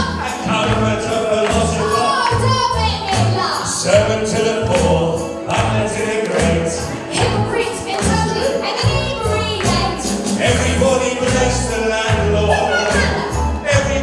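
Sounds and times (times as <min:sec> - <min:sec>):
man and woman singing: 0:00.0 - 0:14.0
music with steady bass beat: 0:00.0 - 0:14.0.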